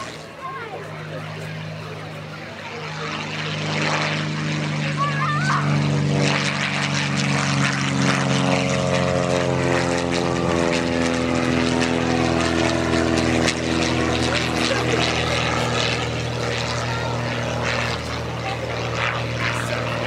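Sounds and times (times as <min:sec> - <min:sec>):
light aircraft flying past: 0:00.0 - 0:20.0.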